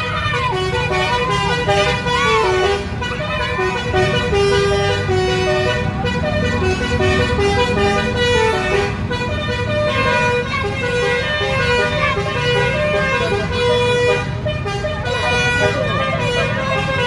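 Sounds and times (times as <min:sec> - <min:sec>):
multi-tone air horn tune: 0:00.0 - 0:17.0.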